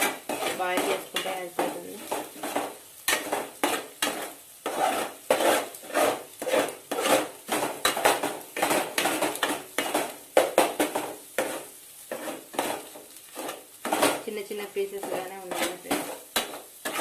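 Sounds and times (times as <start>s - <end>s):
spatula scraping metal pan: 0.0s - 14.3s, 14.9s - 17.0s.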